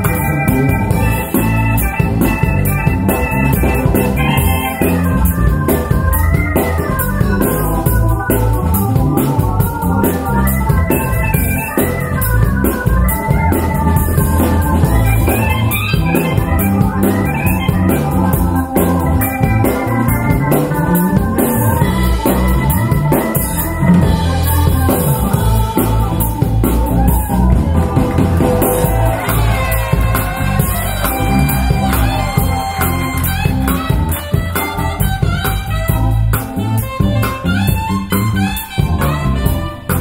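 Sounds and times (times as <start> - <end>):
keyboard chords: 0.0 - 40.0
steady drum beat: 0.0 - 40.0.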